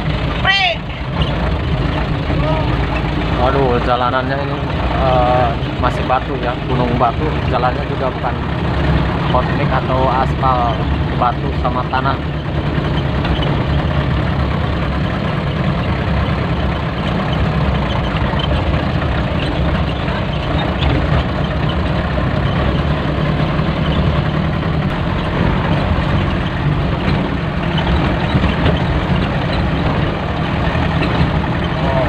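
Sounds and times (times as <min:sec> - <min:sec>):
diesel engine running: 0:00.0 - 0:32.0
truck driving over rough track: 0:00.0 - 0:32.0.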